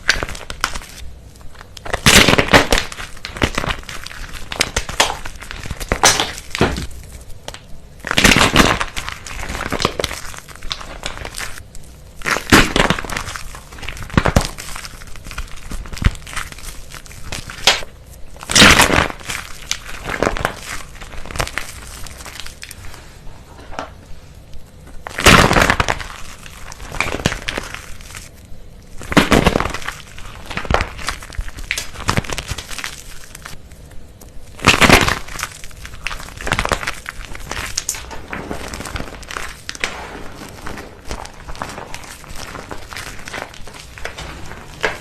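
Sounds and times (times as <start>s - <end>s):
brittle material crunching: 0.0s - 23.8s, 24.4s - 45.0s.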